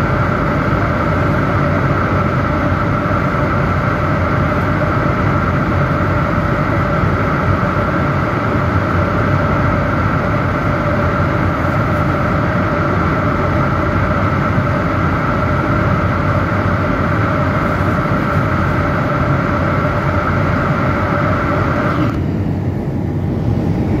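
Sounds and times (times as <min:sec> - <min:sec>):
aircraft engine hum: 0:00.0 - 0:24.0
airflow rushing in cabin: 0:00.0 - 0:24.0.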